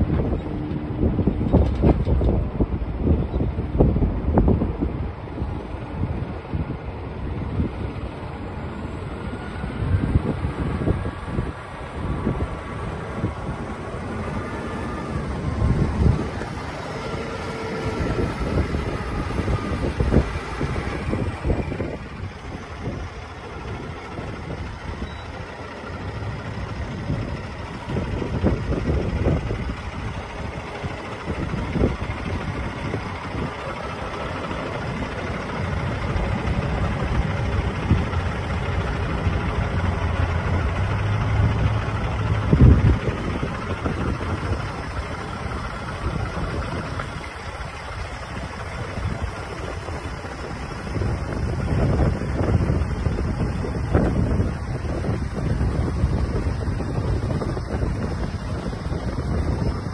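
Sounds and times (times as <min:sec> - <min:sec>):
diesel truck engine idling: 0:00.0 - 0:59.9
wind buffeting microphone: 0:00.0 - 0:59.9.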